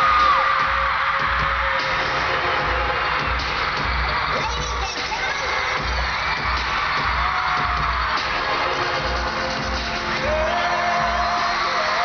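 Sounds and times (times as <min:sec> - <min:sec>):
crowd screaming and cheering: 0:00.0 - 0:12.0
pop music with pulsing bass: 0:00.0 - 0:12.0.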